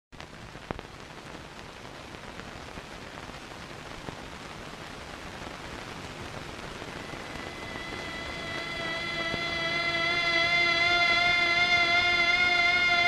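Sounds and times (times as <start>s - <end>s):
film soundtrack hiss: 0.2s - 13.0s.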